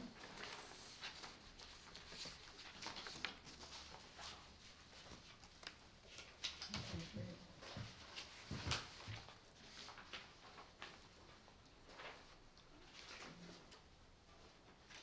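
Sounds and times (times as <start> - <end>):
paper rustling: 0.1 - 13.8.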